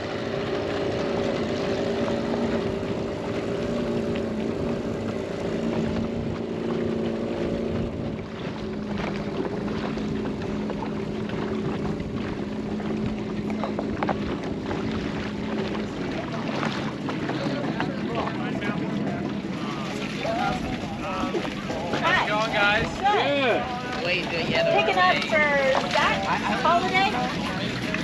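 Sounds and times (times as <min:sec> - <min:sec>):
outboard motor running: 0:00.0 - 0:28.0
water noise: 0:00.0 - 0:28.0
wind: 0:00.0 - 0:28.0.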